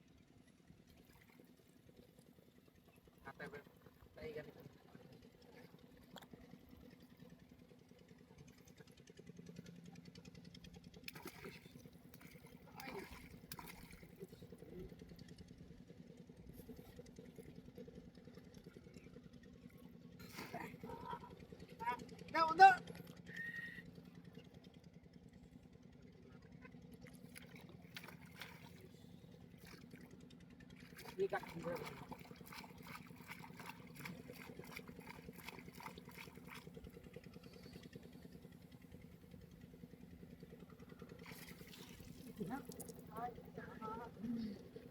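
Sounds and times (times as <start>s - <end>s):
faint engine hum: 0.0s - 44.9s.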